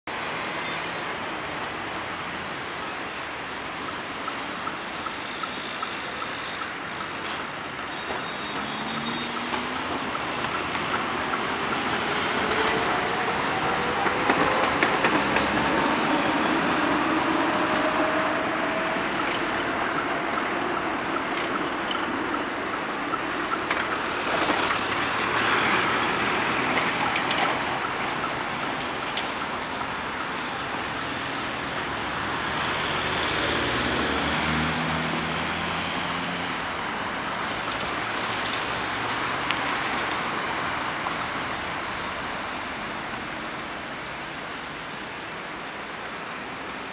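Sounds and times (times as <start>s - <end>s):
city traffic noise: 0.0s - 46.9s.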